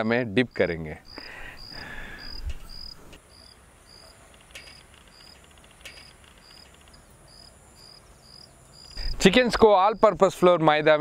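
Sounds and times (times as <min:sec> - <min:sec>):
insect chirping: 0:00.3 - 0:10.3.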